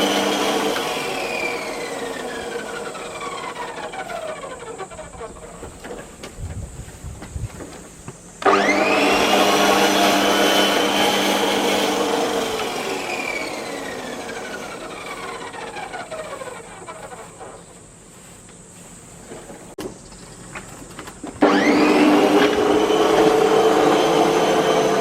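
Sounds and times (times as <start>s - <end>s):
electric lawn mower whine: 0.0s - 25.0s.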